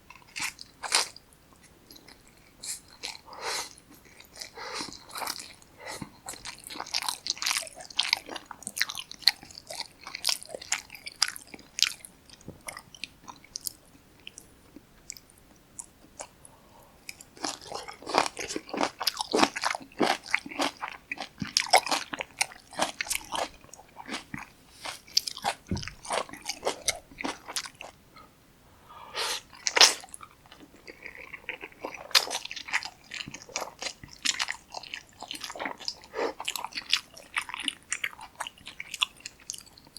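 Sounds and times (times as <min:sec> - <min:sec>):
wet chewing of noodles: 0:00.1 - 0:14.5, 0:17.0 - 0:28.3, 0:29.2 - 0:39.9.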